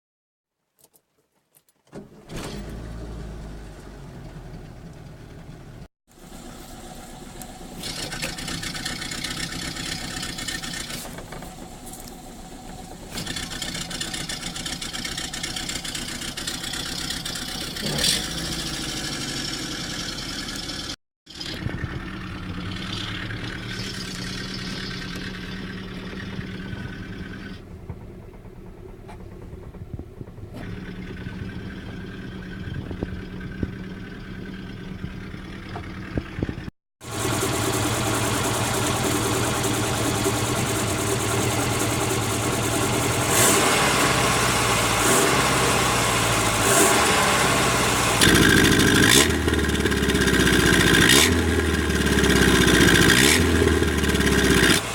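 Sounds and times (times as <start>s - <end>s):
car engine revving: 7.3s - 27.7s, 30.5s - 54.9s.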